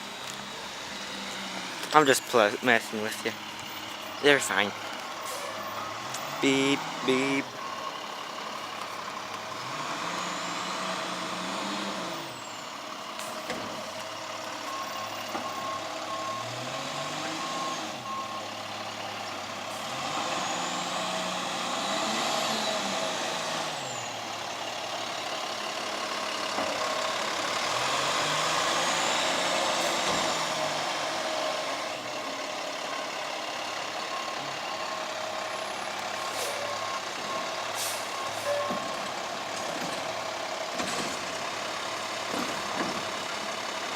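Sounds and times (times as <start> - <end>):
garbage truck engine revving: 0.0 - 43.9.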